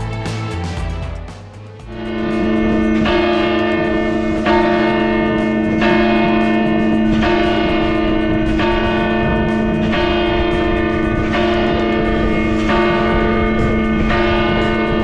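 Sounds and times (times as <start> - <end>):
church bells tolling: 1.9 - 15.0.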